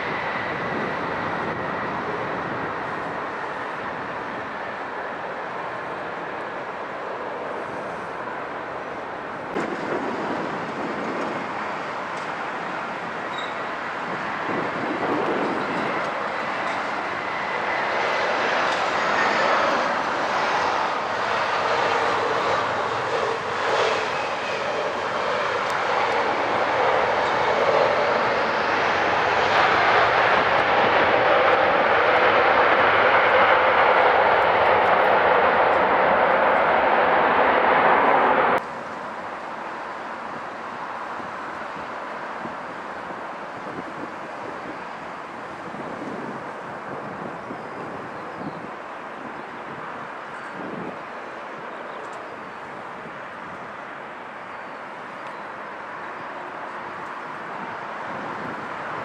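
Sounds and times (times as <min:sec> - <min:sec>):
jet engines rushing: 0:00.0 - 0:59.0.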